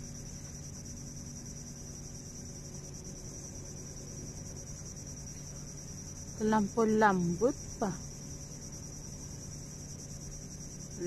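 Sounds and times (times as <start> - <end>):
faint low hum: 0.0 - 11.0
insects chirping: 0.0 - 11.0.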